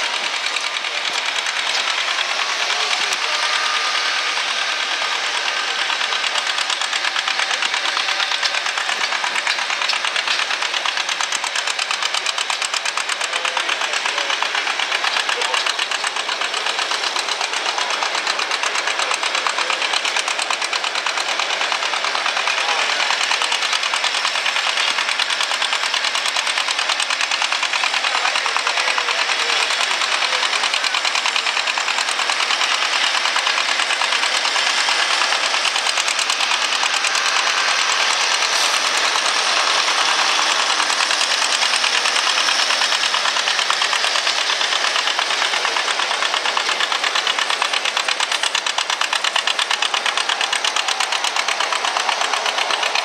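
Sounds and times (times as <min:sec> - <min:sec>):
tractor engine running hard: 0:00.0 - 0:53.0.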